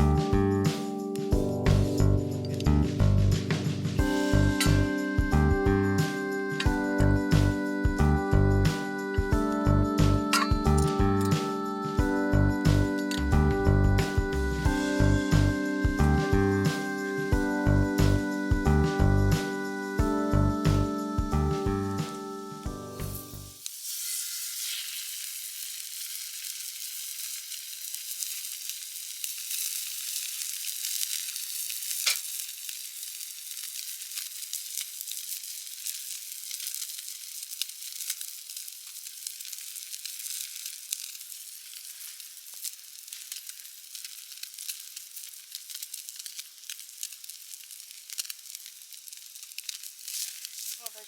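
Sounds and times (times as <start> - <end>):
food sizzling in a pan: 0.7 - 21.3, 22.0 - 51.0.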